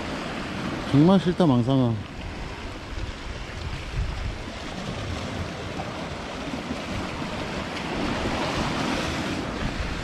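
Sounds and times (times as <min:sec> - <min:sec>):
sea waves washing on shore: 0:00.0 - 0:10.0.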